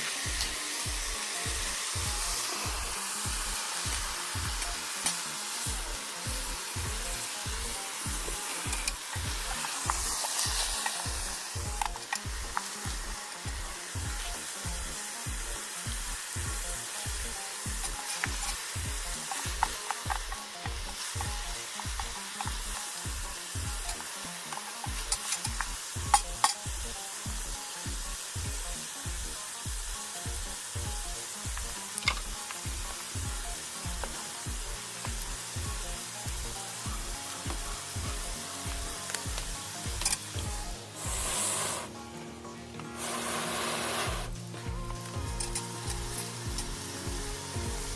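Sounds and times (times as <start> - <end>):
utensil clicking against pot: 0.0 - 27.6, 28.3 - 41.4
stirring strokes: 0.0 - 42.2
food sizzling in a pot: 0.0 - 47.9.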